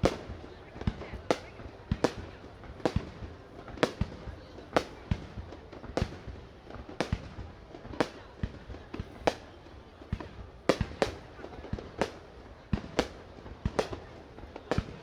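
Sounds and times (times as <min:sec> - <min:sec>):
small firework pops: 0:00.0 - 0:15.0.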